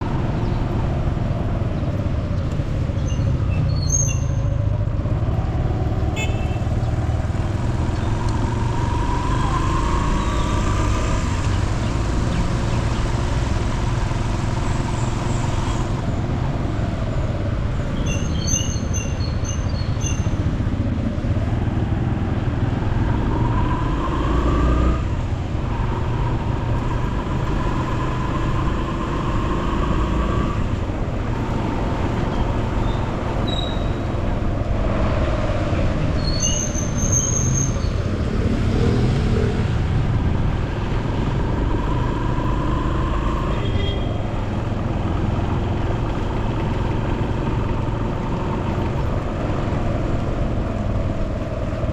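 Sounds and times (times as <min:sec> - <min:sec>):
low road rumble: 0:00.0 - 0:51.9
vehicle engine speeding up: 0:04.4 - 0:17.9, 0:20.4 - 0:36.2, 0:37.7 - 0:51.9.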